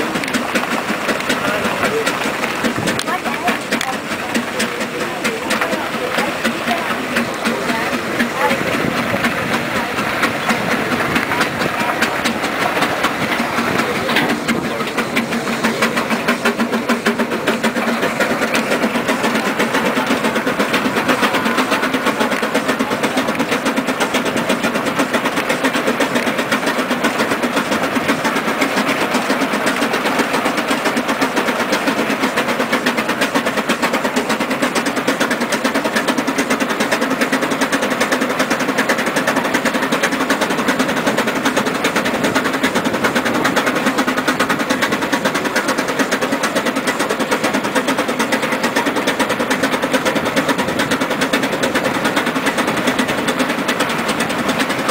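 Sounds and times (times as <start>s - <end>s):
steam engine beating rhythmically: 0.0s - 54.9s.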